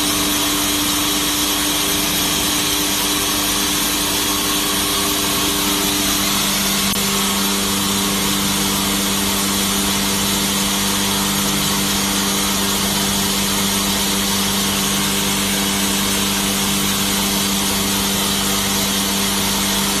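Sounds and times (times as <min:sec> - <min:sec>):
band saw running: 0:00.0 - 0:20.0.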